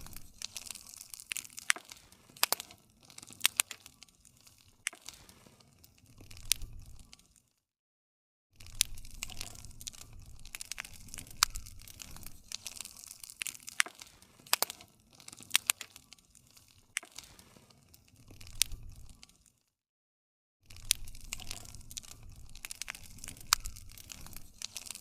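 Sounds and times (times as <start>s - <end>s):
campfire crackling and popping: 0.0s - 7.5s, 8.6s - 19.6s, 20.7s - 25.0s.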